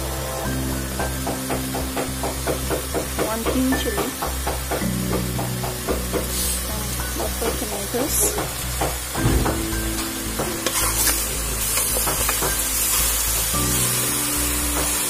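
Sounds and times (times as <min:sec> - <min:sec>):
chicken sizzling in pot: 0:00.0 - 0:15.0.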